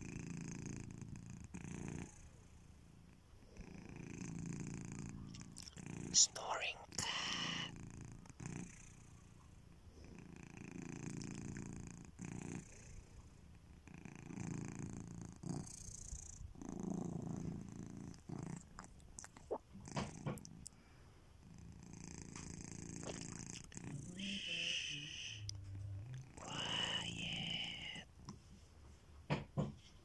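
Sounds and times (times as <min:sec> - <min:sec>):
cat snoring: 0:00.0 - 0:28.2.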